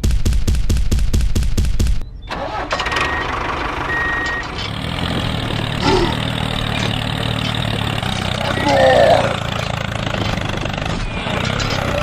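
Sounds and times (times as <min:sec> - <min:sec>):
engine starting and idling: 0:02.3 - 0:12.0.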